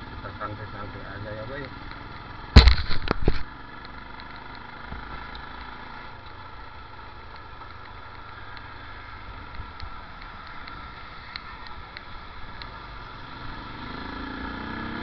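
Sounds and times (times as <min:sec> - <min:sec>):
motorcycle engine and road noise: 0:00.0 - 0:15.0.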